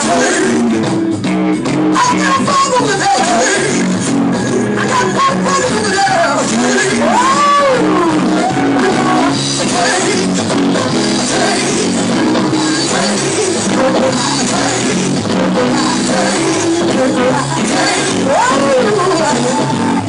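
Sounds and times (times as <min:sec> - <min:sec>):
person singing: 0:00.0 - 0:01.0, 0:02.0 - 0:20.0
drums: 0:00.0 - 0:20.0
guitar: 0:00.0 - 0:20.0.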